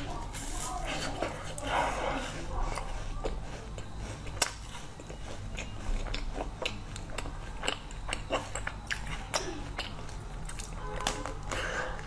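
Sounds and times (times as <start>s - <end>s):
chewing with crisp crunches: 0.0s - 12.0s.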